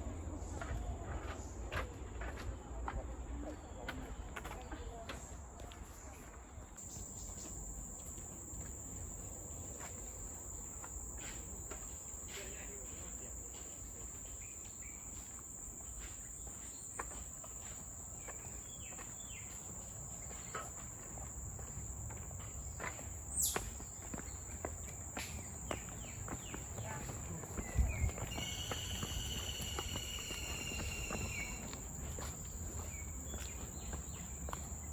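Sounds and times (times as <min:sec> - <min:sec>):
faint footsteps: 0:00.5 - 0:34.9
insects droning: 0:06.8 - 0:34.9.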